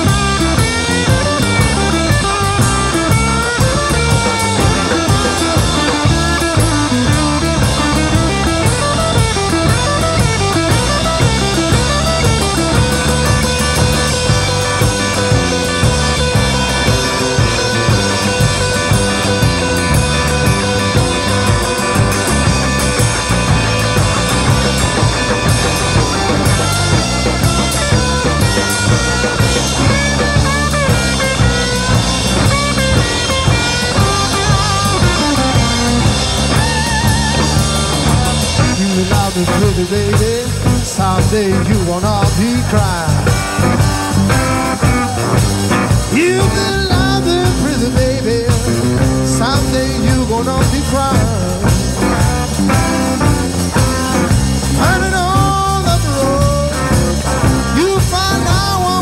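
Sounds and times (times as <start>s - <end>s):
bass guitar: 0.0s - 59.0s
drums: 0.0s - 59.0s
electric guitar lead with bends: 0.0s - 59.0s.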